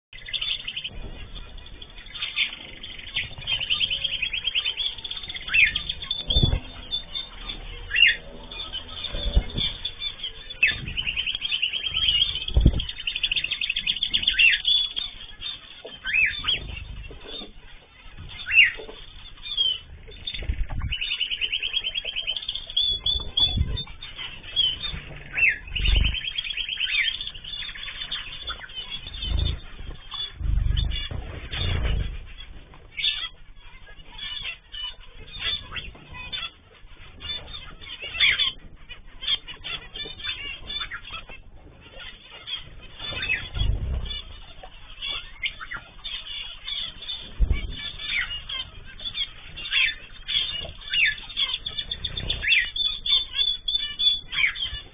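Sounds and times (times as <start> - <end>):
cage birds chirping and trilling: 0.1 - 54.9.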